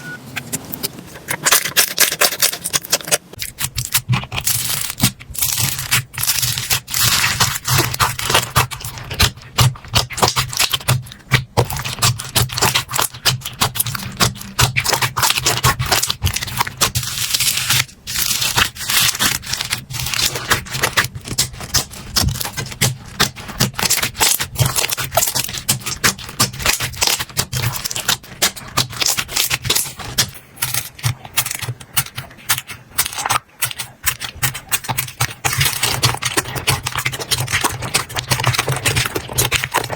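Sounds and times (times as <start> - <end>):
slime squished by hand: 2.0 - 39.9.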